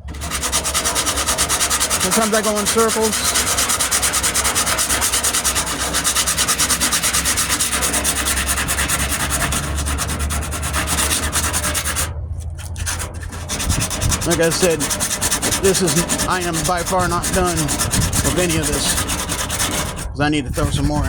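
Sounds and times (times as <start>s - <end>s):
rasp shaving body filler: 0.0s - 21.0s.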